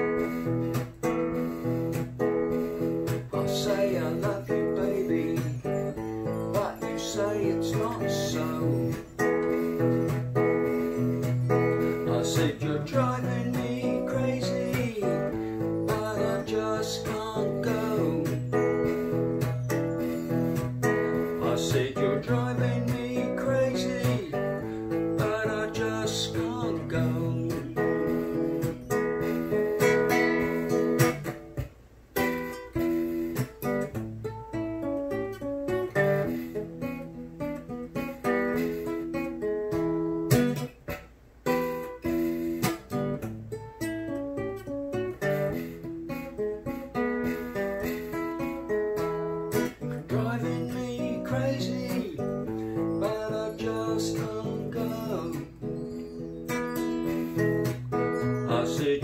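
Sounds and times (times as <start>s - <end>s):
fingerstyle acoustic guitar: 0.0s - 59.0s.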